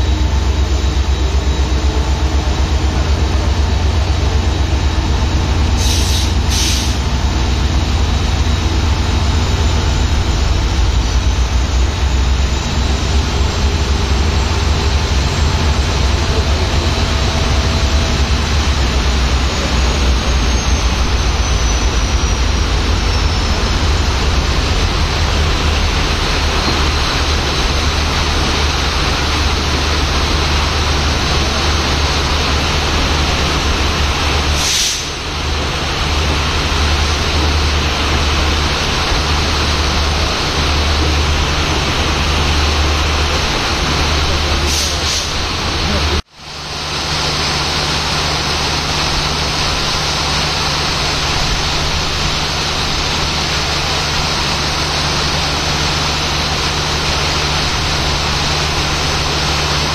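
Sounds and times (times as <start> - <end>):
diesel locomotive engine drone: 0.0 - 59.9
train coaches rolling: 0.0 - 59.9.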